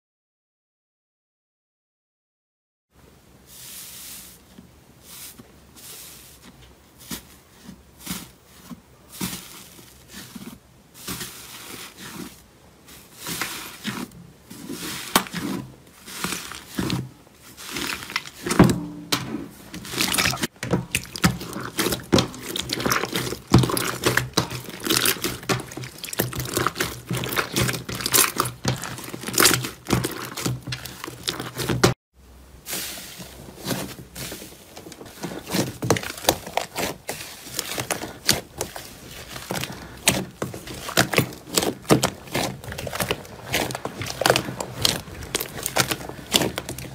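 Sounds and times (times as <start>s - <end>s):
slime squishing and crackling: 8.0s - 32.0s, 32.7s - 46.9s.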